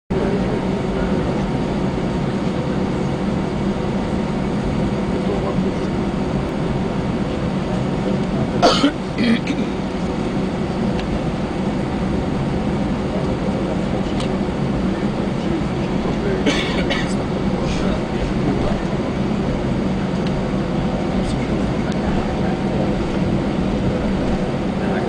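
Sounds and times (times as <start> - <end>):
aircraft cabin rumble: 0.1 - 25.0.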